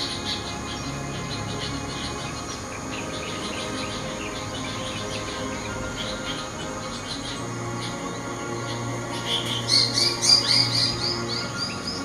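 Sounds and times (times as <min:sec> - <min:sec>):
rapid high-pitched chirping: 0:00.0 - 0:12.0
soft background music: 0:00.0 - 0:12.0.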